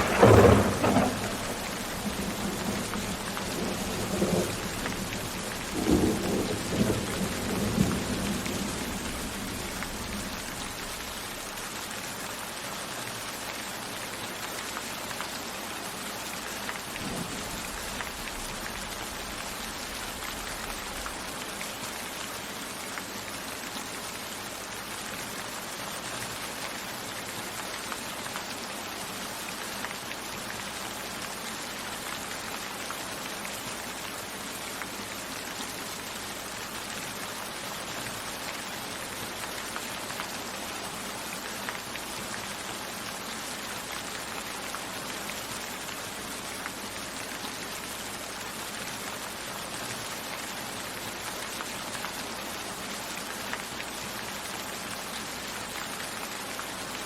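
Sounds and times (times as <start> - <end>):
raindrops pattering: 0.0 - 57.0
steady rain falling: 0.0 - 57.0.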